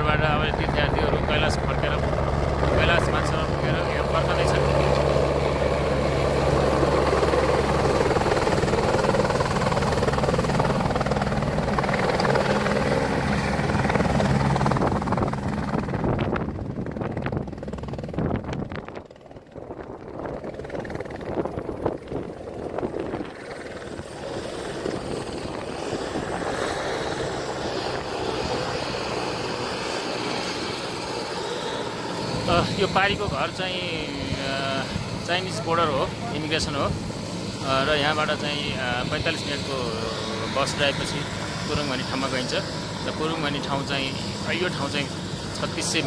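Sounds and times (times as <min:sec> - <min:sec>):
helicopter hovering: 0:00.0 - 0:46.0.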